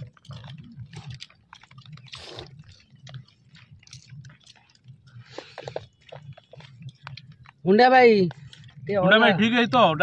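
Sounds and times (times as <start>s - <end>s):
person chewing food: 0.0s - 7.7s, 8.3s - 8.9s.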